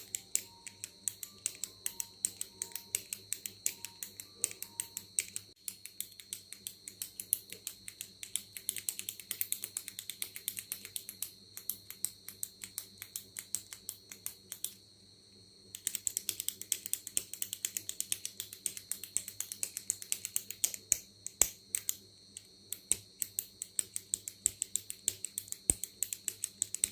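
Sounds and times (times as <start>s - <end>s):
retractable pen clicking: 0.0s - 14.8s, 15.7s - 26.9s.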